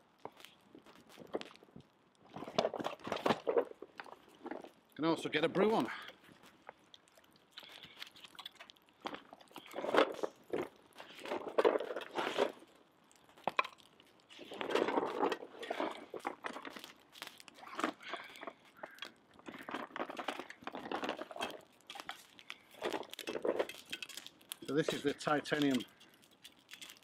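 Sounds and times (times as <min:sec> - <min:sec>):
cooking gear rustling and crunching: 0:00.0 - 0:27.0
wood fire crackling and popping: 0:00.0 - 0:27.0.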